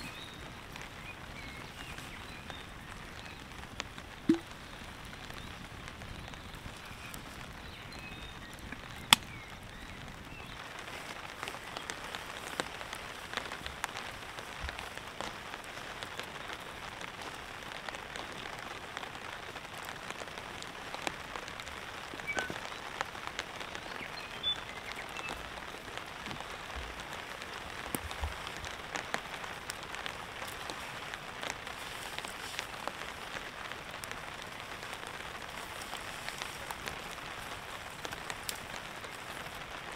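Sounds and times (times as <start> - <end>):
rain falling on a tarp: 0.0 - 39.9.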